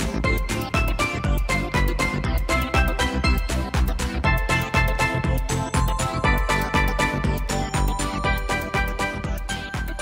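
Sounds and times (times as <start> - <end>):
fast beat music with bass: 0.0 - 10.0.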